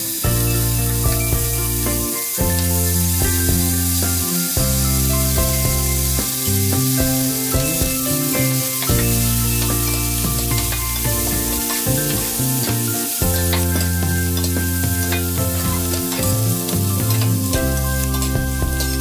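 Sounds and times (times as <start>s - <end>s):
background music with held chords: 0.0s - 19.0s
food sizzling in a frying pan: 0.0s - 19.0s.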